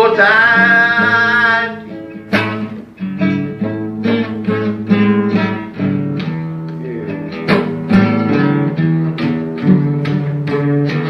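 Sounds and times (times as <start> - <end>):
blues guitar picking: 0.0 - 11.0
strummed guitar chord: 0.0 - 11.0.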